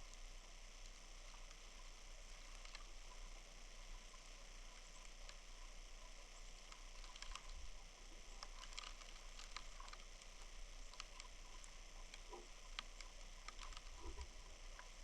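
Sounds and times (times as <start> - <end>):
light ticks and clicks: 0.0 - 15.0
steady hiss of snowstorm: 0.0 - 15.0.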